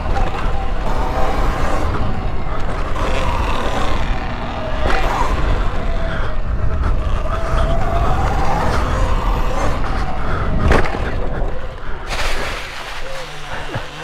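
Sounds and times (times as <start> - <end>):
electric motor whine: 0.0 - 14.0
wind rumble on microphone: 0.0 - 14.0.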